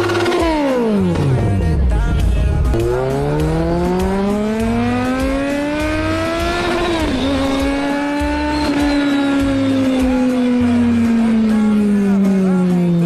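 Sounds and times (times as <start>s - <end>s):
motorcycle engine accelerating: 0.0s - 13.0s
music with bass beat: 0.0s - 13.0s.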